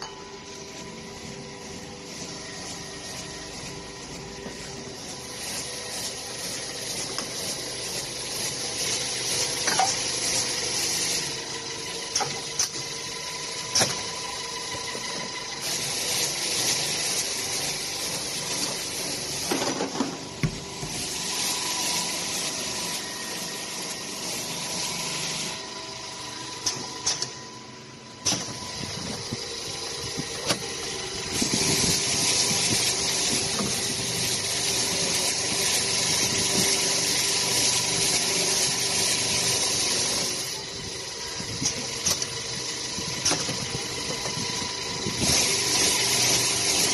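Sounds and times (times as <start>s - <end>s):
polishing machine humming: 0.0s - 46.9s
machine hissing: 0.4s - 46.9s.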